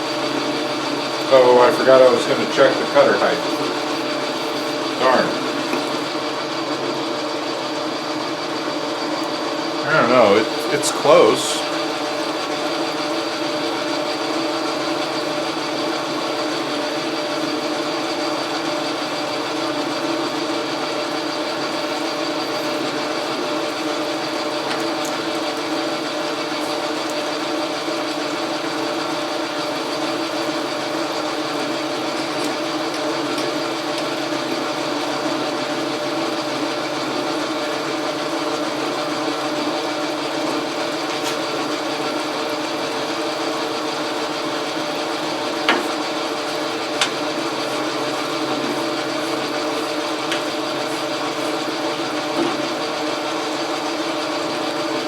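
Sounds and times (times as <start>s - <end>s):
metal lathe humming: 0.0s - 54.6s.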